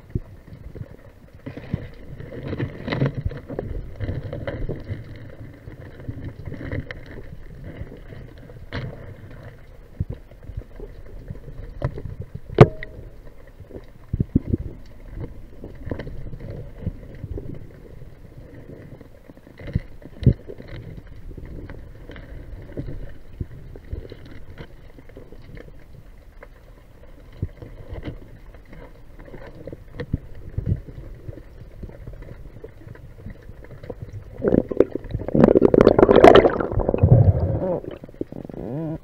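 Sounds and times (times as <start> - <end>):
muffled underwater rumble: 0.0 - 39.0.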